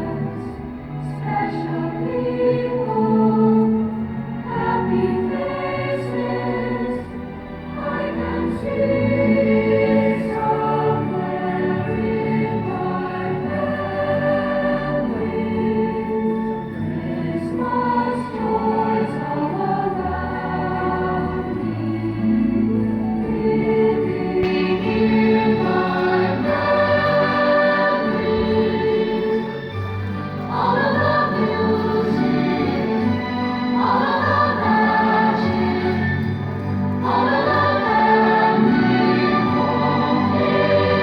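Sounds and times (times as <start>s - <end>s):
choir singing held notes: 0.0s - 41.0s.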